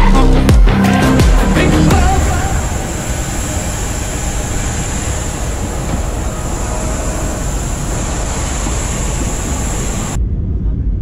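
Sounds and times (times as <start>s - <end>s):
high whine: 0.7s - 10.2s
jet aircraft roar: 0.9s - 10.2s
wind buffeting microphone: 1.6s - 11.0s.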